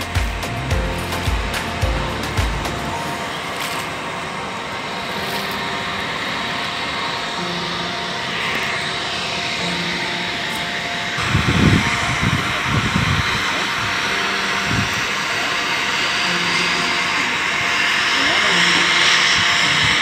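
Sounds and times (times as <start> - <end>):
faint falling whine: 0.0 - 20.0
faint hum: 0.0 - 20.0
mechanical engine drone: 0.0 - 20.0.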